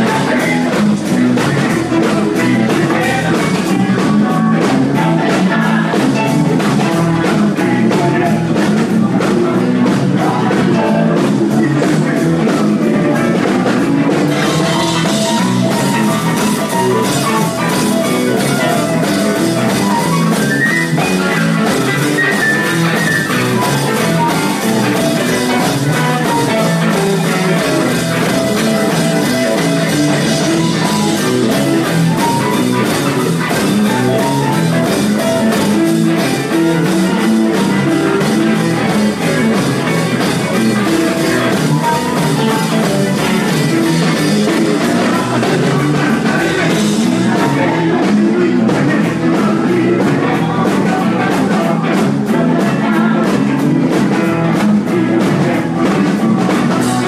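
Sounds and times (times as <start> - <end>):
drum kit beat: 0.0 - 57.0
electric guitar: 0.0 - 57.0
live rock band playing: 0.0 - 57.0.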